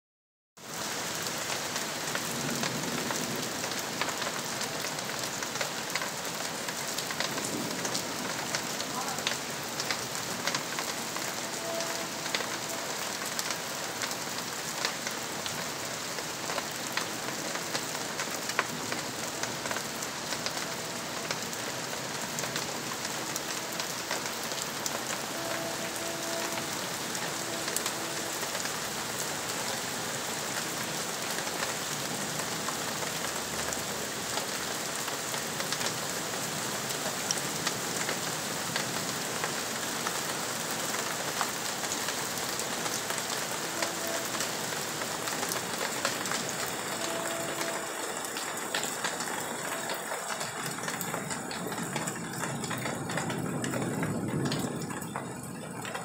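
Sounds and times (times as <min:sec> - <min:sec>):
steady rain hiss: 0:00.6 - 0:56.0
raindrop ticks: 0:01.2 - 0:29.2, 0:30.9 - 0:56.0.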